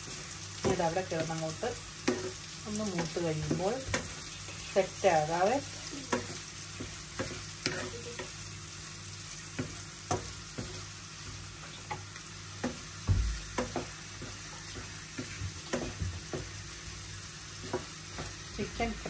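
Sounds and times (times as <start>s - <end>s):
spatula knocking and scraping pan: 0.0s - 4.2s, 5.2s - 8.4s, 9.5s - 16.9s, 17.5s - 19.0s
sausages sizzling in oil: 0.0s - 19.0s.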